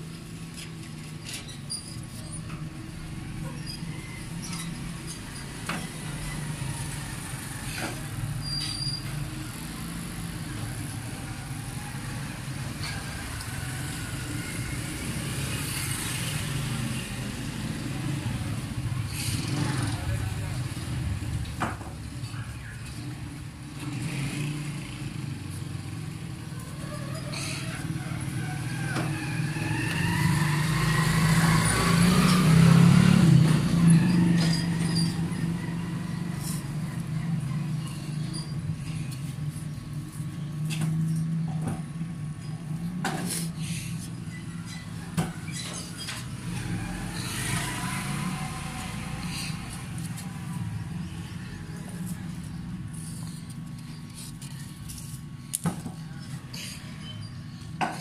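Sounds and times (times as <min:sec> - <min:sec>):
engine rumble: 0:00.0 - 0:58.0.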